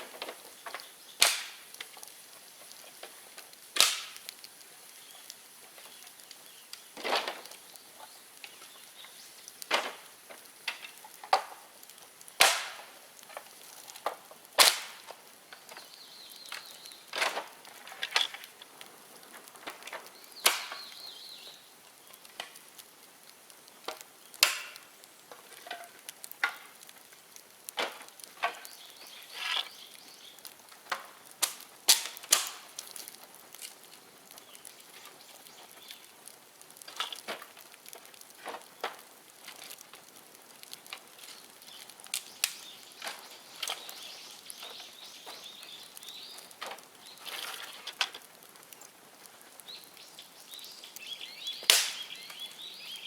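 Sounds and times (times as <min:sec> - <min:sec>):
bonfire crackling and popping: 0:00.0 - 0:53.0.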